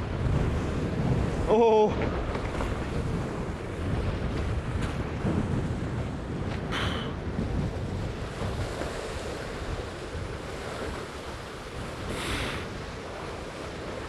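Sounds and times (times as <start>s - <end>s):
water rushing past hulls: 0.0s - 14.0s
wind buffeting microphone: 0.0s - 14.0s.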